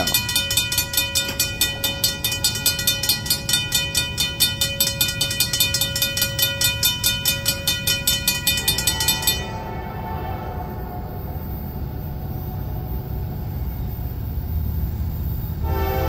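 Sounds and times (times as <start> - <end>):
freight train passing: 0.0 - 16.0
steady ringing tones: 0.0 - 16.0.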